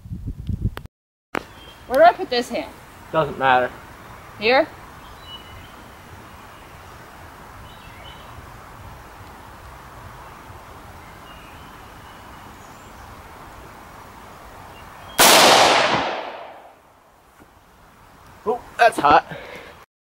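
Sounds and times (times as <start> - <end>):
steady background hiss: 1.4 - 19.8.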